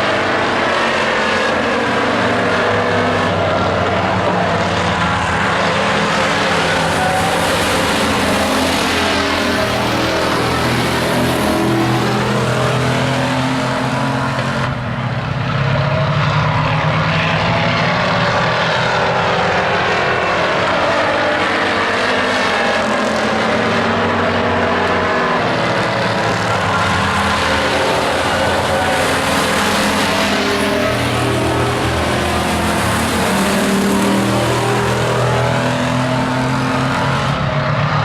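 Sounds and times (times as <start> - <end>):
race truck engines droning: 0.0 - 38.0.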